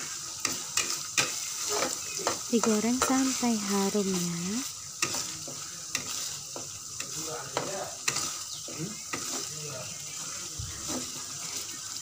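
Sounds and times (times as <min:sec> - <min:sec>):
metal spoon scraping a wok: 0:00.0 - 0:12.0
paste sizzling in oil: 0:00.0 - 0:12.0.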